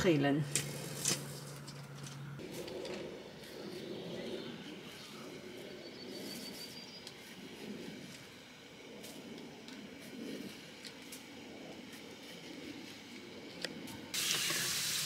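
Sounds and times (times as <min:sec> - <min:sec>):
outdoor ambience: 0:00.0 - 0:15.0.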